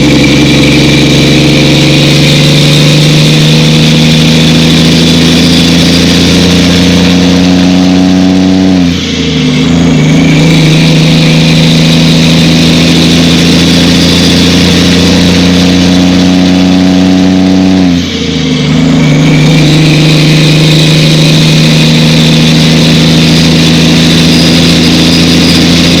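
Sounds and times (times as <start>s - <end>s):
truck diesel engine accelerating: 0.0s - 26.0s.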